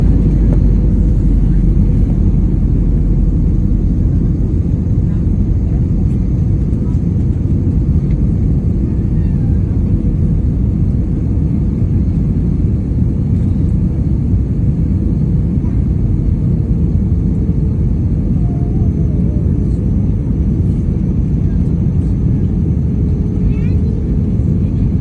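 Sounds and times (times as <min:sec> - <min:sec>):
loud steady low rumble: 0:00.0 - 0:25.0.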